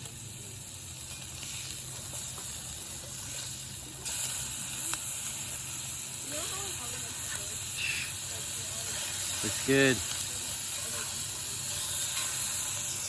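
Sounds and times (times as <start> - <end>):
bonfire hissing: 0.0 - 13.0
faint fire crackles: 0.0 - 13.0.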